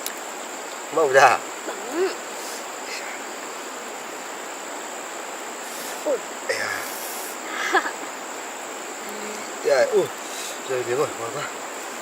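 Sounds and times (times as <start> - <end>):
insects droning: 0.0 - 12.0
rushing background noise: 0.0 - 12.0.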